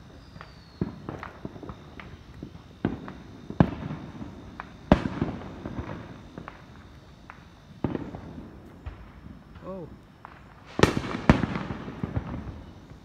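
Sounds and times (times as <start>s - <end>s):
firework bangs: 0.0s - 13.0s
small firework pops: 0.0s - 13.0s.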